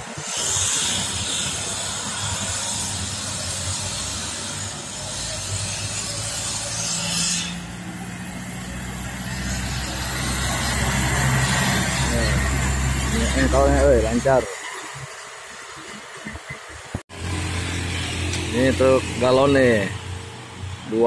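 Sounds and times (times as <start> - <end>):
road traffic hiss: 0.0 - 21.0
truck diesel engine labouring: 0.0 - 21.0.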